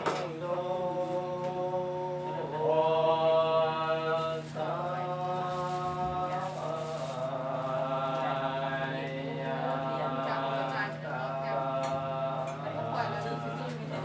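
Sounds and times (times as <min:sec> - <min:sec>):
group chanting in unison: 0:00.0 - 0:14.0.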